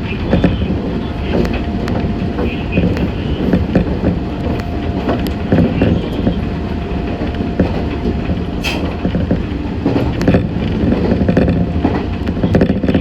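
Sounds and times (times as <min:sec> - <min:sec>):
train wheels rumbling on rails: 0:00.0 - 0:13.0
knocks and clicks: 0:00.3 - 0:12.8.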